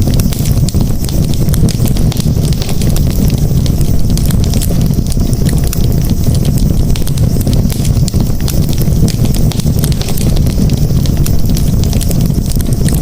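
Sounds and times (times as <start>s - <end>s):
campfire flames rushing: 0.0s - 13.0s
fire crackling and popping: 0.0s - 13.0s.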